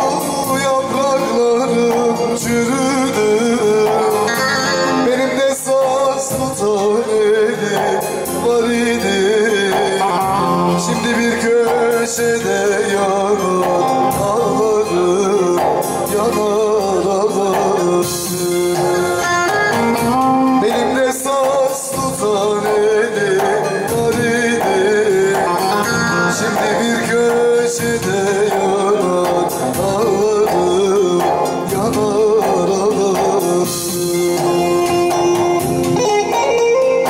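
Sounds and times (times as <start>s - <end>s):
folk song on keyboard and lute: 0.0s - 37.0s.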